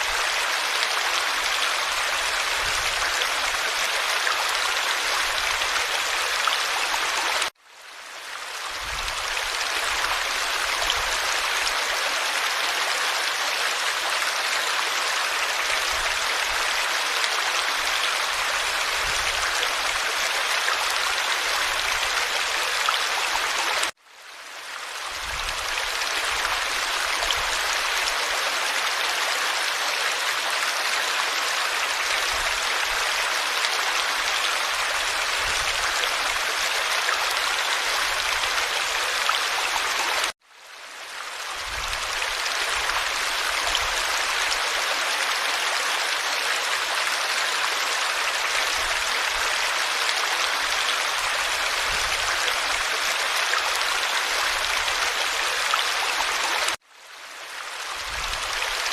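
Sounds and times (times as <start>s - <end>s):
stream rushing over stones: 0.0s - 58.9s.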